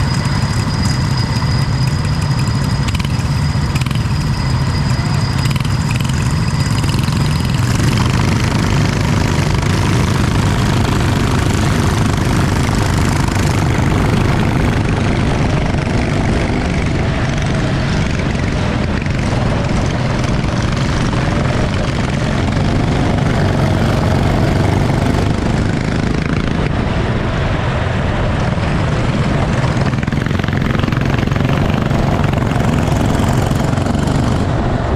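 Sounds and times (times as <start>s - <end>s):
racing kart engine running: 0.0s - 34.9s.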